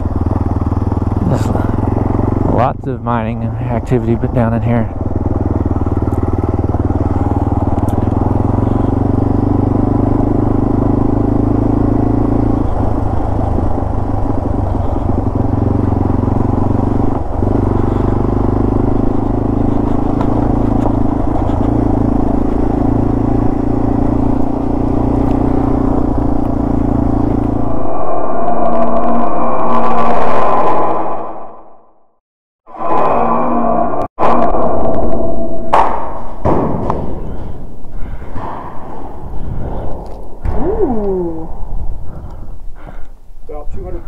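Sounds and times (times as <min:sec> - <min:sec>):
motorcycle engine running: 0:00.0 - 0:28.1, 0:35.7 - 0:44.0.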